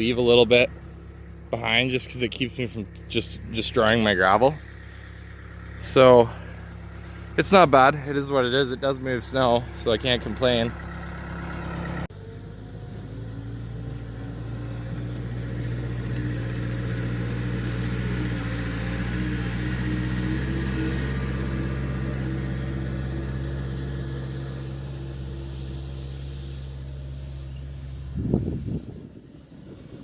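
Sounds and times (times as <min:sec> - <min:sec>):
skid steer engine running: 0:00.0 - 0:30.0.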